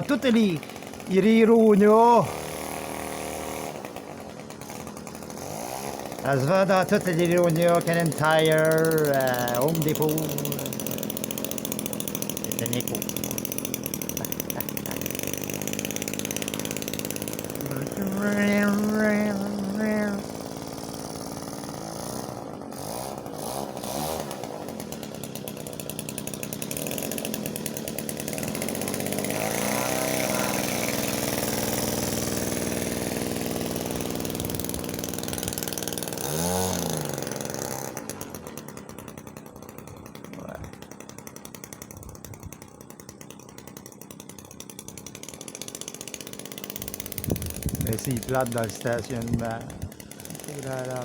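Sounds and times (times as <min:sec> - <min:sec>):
model airplane motor buzzing: 0:00.0 - 0:51.0.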